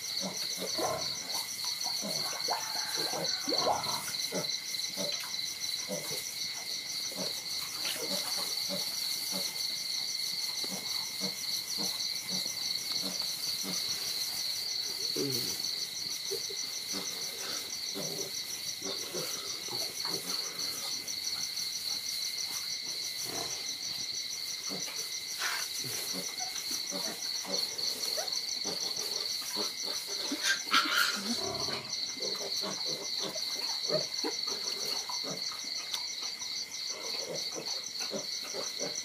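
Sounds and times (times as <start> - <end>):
night insects trilling: 0.0 - 39.0.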